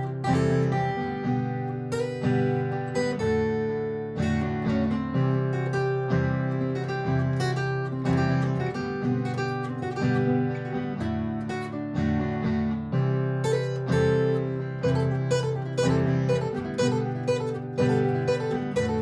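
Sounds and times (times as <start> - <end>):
acoustic guitar chords and picked notes: 0.0 - 19.0.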